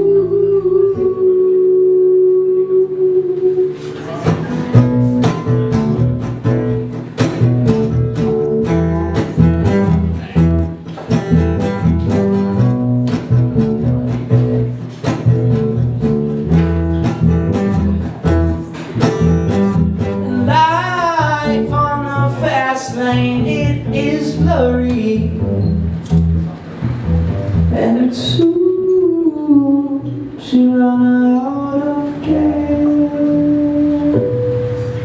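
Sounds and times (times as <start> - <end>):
picked acoustic guitar: 0.0 - 35.0
string bass line: 0.0 - 35.0.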